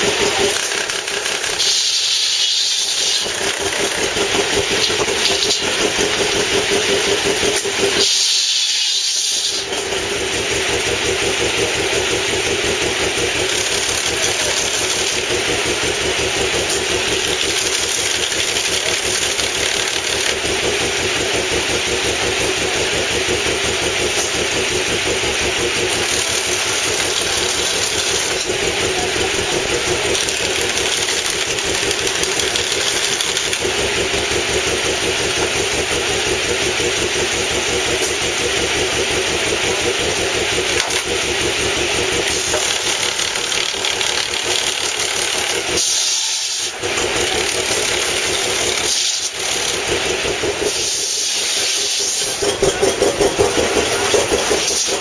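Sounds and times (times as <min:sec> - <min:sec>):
belt-driven mill running: 0:00.0 - 0:55.0.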